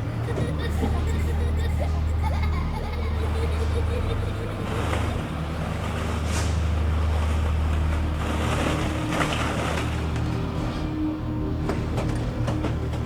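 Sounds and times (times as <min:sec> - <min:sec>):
low rumbling drone: 0:00.0 - 0:13.0
noisy wash: 0:00.0 - 0:13.0.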